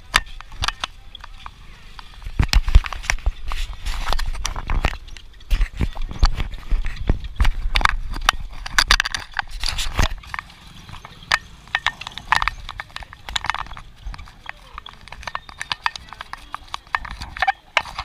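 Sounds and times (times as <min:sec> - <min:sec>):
footsteps on a street: 0:00.0 - 0:08.7, 0:09.4 - 0:18.0.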